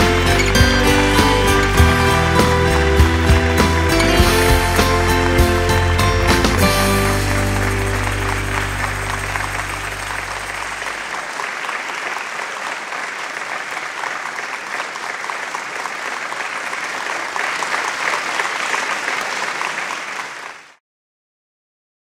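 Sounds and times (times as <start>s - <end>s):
crowd applauding: 0.0s - 20.8s.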